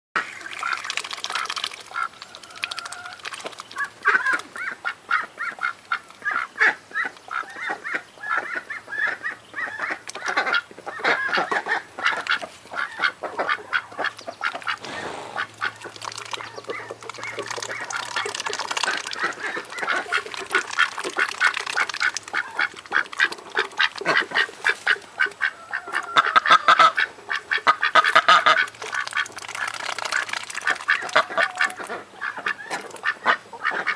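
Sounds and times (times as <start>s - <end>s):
ducks quacking: 0.3s - 33.9s.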